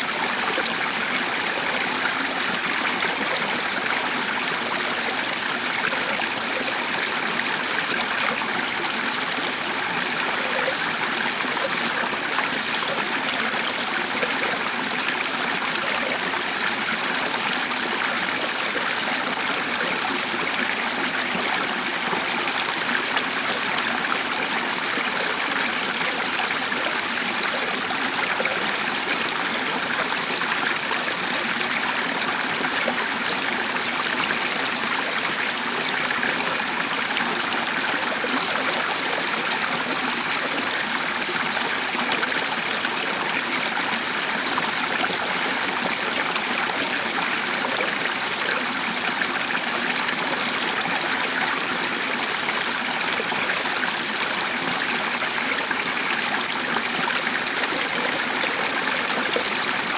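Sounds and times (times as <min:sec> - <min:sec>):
stream of water running: 0:00.0 - 0:59.9.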